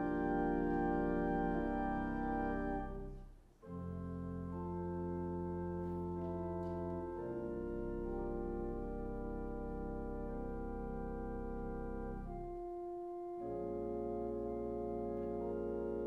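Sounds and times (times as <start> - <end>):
pipe organ playing chords: 0.0 - 16.0.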